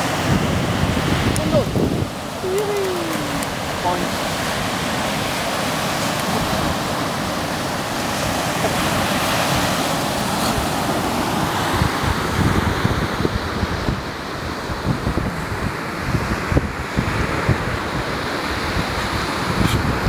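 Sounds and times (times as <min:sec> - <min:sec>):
surf breaking on a beach: 0:00.0 - 0:20.0
wind buffeting the microphone: 0:00.0 - 0:20.0.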